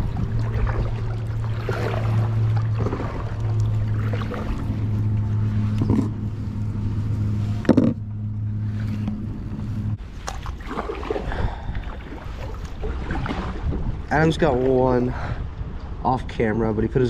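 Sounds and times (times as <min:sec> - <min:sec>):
low motor hum: 0:00.0 - 0:14.8.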